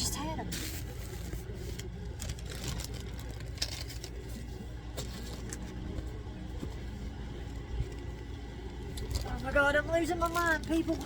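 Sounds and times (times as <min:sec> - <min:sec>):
small items being rummaged: 0:00.0 - 0:06.9, 0:07.6 - 0:11.0
steady low hum: 0:00.0 - 0:11.0.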